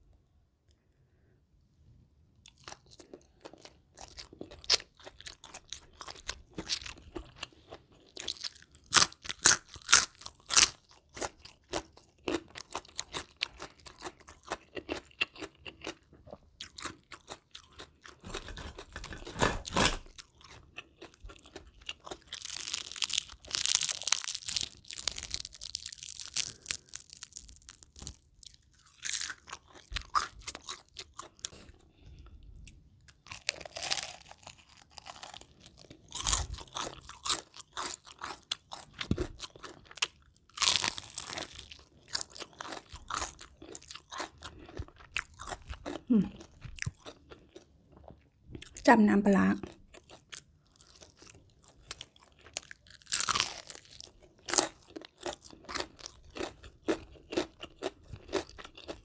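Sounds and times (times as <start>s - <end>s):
crunching fried chicken: 2.4s - 32.3s, 33.0s - 48.8s, 49.6s - 59.0s.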